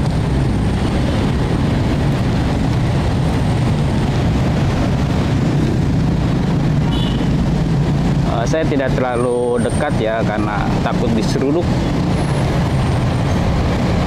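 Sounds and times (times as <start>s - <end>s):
low rumble of city traffic: 0.0s - 14.0s.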